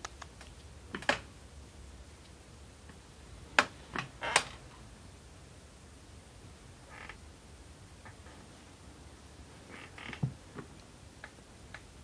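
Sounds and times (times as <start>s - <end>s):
low steady background noise: 0.0s - 12.0s.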